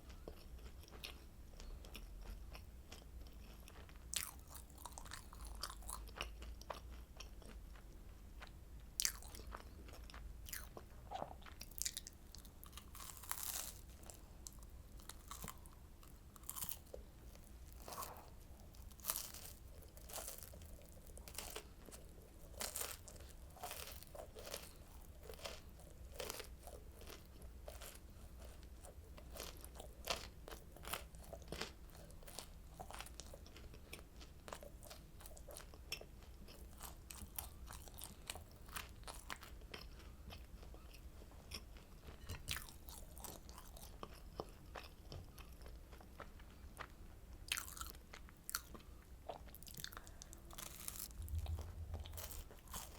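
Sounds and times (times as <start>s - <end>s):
chewing crunchy candy: 0.0s - 52.9s.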